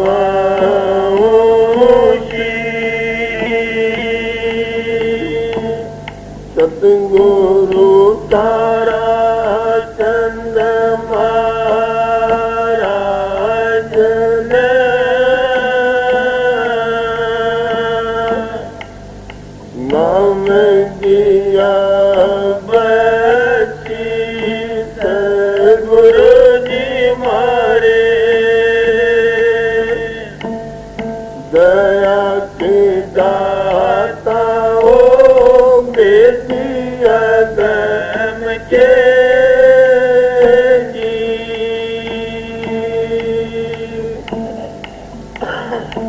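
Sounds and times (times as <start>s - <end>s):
man singing devotional song: 0.0s - 19.0s, 19.7s - 30.6s, 31.4s - 46.0s
harmonium: 0.0s - 46.0s.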